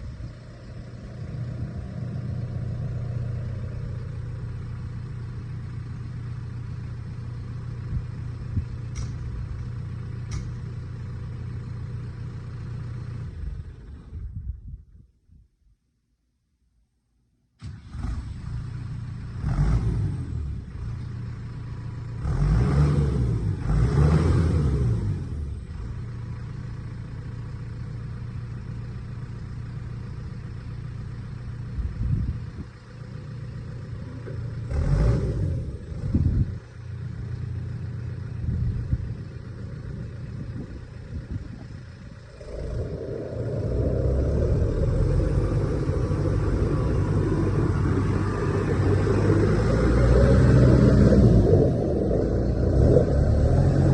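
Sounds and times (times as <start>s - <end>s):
tractor diesel engine running: 0.0s - 14.8s, 20.3s - 22.6s, 23.4s - 53.9s.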